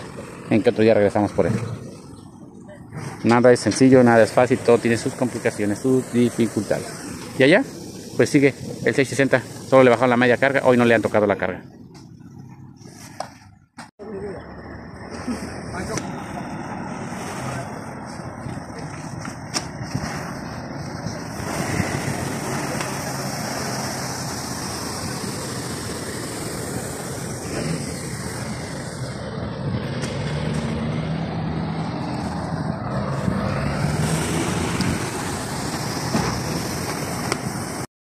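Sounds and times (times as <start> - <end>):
truck engine humming: 0.0 - 37.8.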